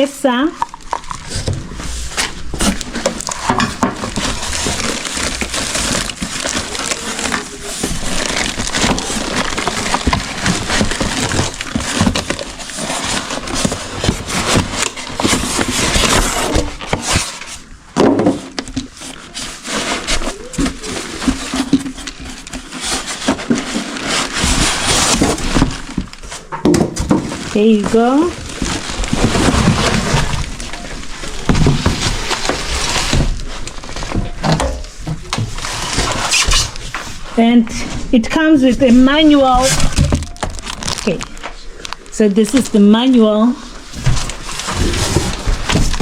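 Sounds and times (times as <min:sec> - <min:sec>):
cardboard and plastic crinkling: 0:00.3 - 0:46.0.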